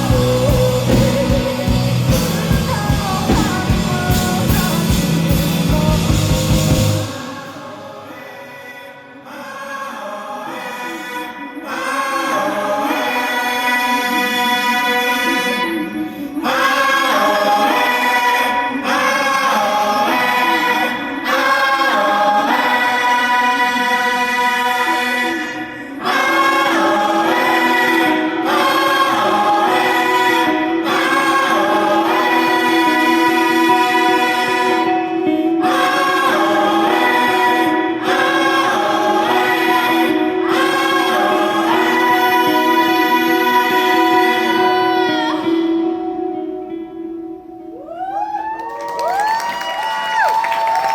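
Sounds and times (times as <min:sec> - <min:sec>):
choir-like singing: 0:00.0 - 0:47.6.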